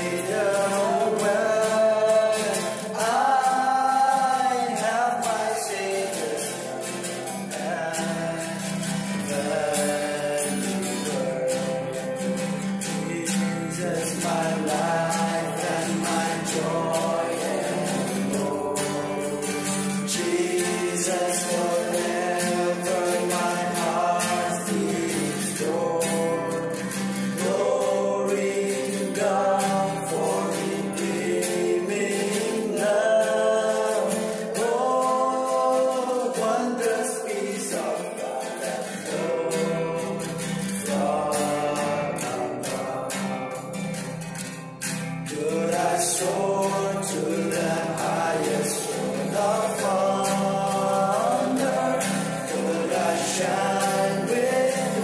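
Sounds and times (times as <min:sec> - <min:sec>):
male vocal quartet singing gospel: 0:00.0 - 0:44.5, 0:45.1 - 0:55.0.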